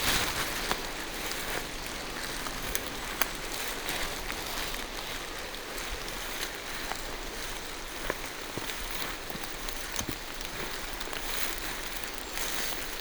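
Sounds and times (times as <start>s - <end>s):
rain falling through trees: 0.0s - 13.0s.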